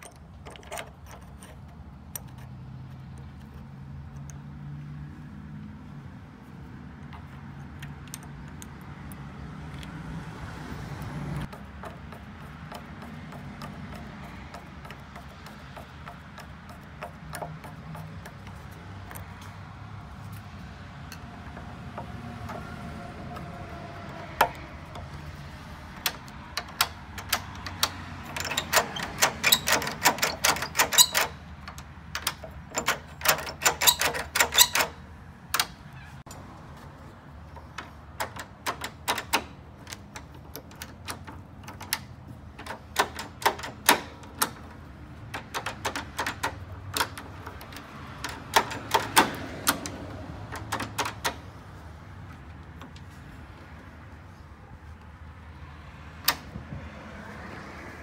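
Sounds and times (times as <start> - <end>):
screwdriver and lock clicking: 0.0 - 4.4, 7.0 - 10.0, 11.0 - 19.7, 20.3 - 36.5, 37.5 - 51.6, 56.2 - 56.6.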